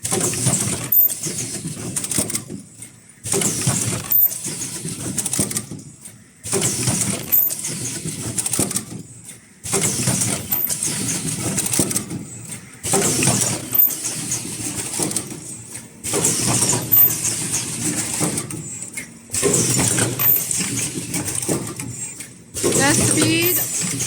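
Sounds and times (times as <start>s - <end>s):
machine clatter: 0.0s - 24.0s.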